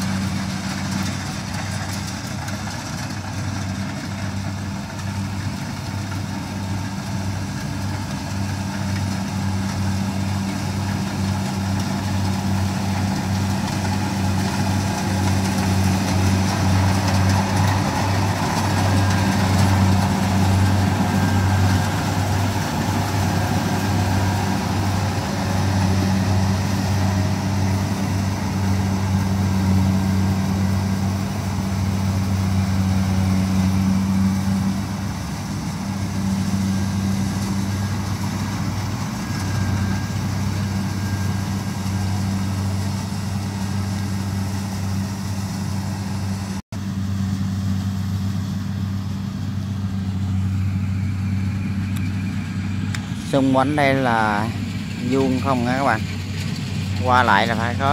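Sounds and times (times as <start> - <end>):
combine harvester engine hum: 0.0 - 57.9.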